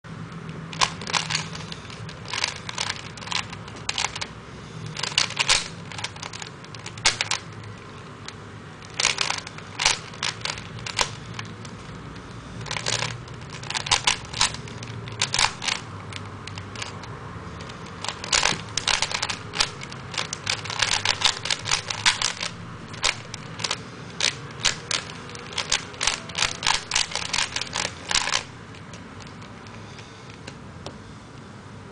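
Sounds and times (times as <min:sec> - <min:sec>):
puzzle cube plastic clicks: 0:00.4 - 0:30.6.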